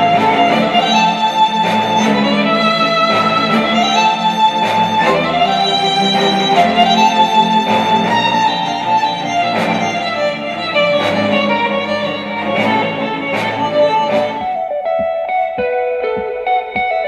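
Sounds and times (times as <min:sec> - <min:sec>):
orchestral music with violin: 0:00.0 - 0:14.8.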